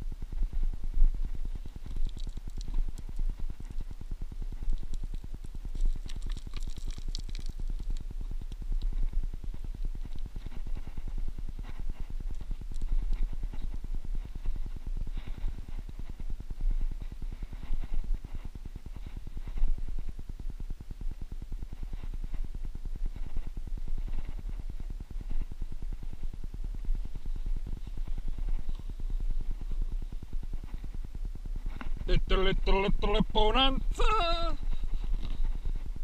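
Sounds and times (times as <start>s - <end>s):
wind buffeting microphone: 0.0s - 34.0s, 34.6s - 36.0s.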